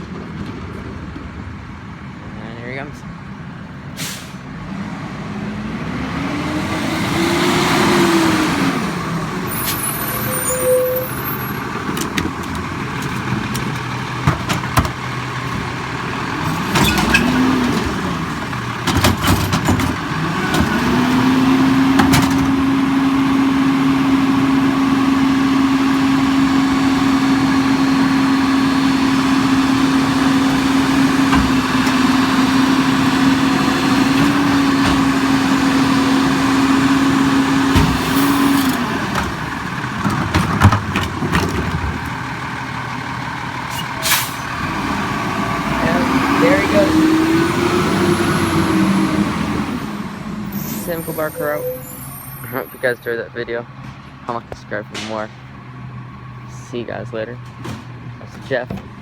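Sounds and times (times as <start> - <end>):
diesel engine revving: 1.7 - 59.0.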